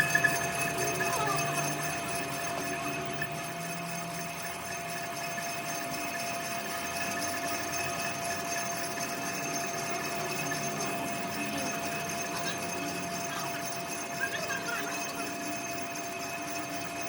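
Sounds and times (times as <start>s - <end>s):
workshop machine whining: 0.0s - 17.0s.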